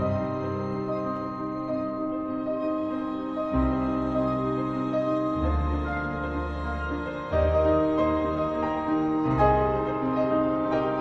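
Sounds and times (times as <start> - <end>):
orchestra and piano chords: 0.0 - 11.0.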